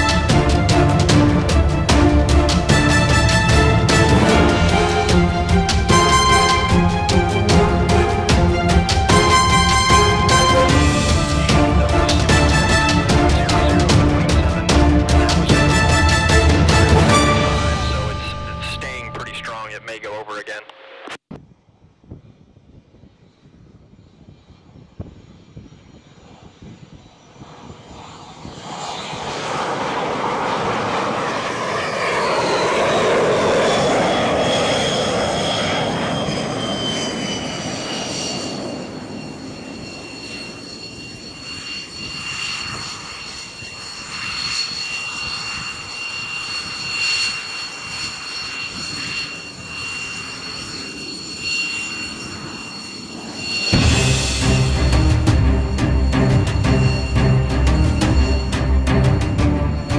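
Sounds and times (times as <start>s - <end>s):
high turbine whine: 0.0s - 59.9s
jet landing rush: 0.0s - 59.9s.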